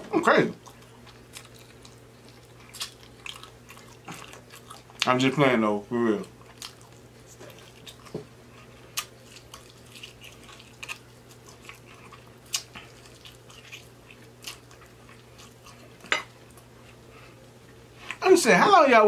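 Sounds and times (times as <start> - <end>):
low steady hum: 0.0 - 19.0
man chewing with mouth sounds: 0.2 - 5.2, 5.9 - 18.2.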